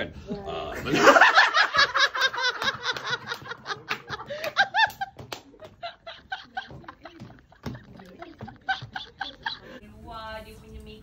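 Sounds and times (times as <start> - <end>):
person laughing: 0.8 - 9.8.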